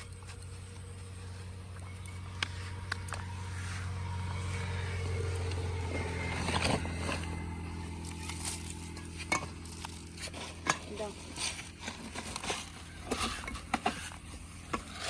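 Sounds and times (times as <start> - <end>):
engine humming: 0.0 - 15.0
scrapes: 0.0 - 15.0.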